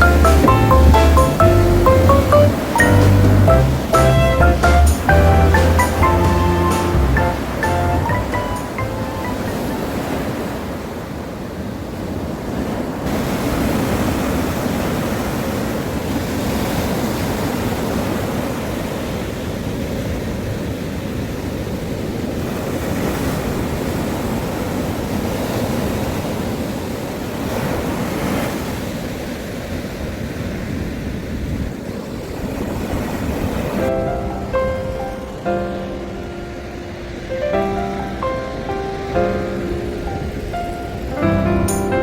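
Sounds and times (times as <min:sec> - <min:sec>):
sea waves washing in: 0:00.0 - 0:42.0.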